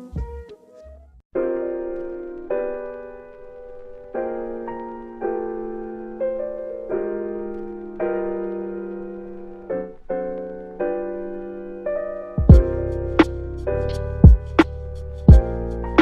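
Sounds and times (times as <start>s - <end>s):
slow piano chords: 1.3s - 16.0s.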